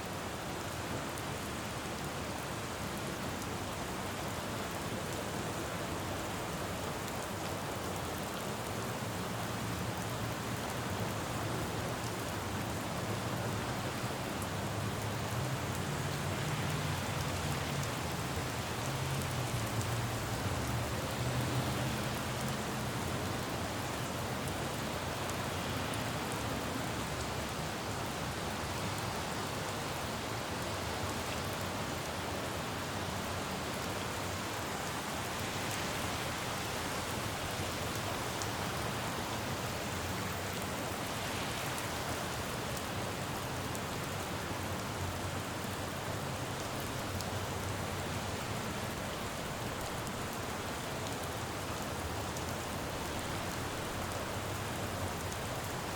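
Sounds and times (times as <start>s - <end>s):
rain falling on a road: 0.0s - 55.9s.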